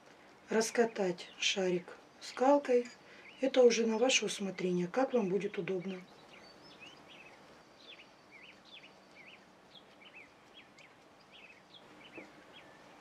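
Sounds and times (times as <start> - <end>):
bird chirping: 0.5 - 13.0.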